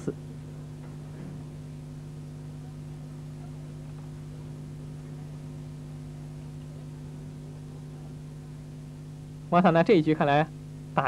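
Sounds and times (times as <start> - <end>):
low mains hum: 0.0 - 11.0.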